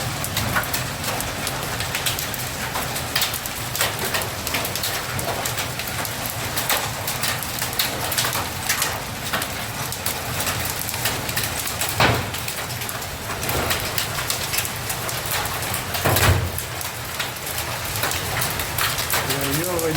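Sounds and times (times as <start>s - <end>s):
hailstones hitting: 0.0s - 19.9s
rain falling: 0.0s - 19.9s.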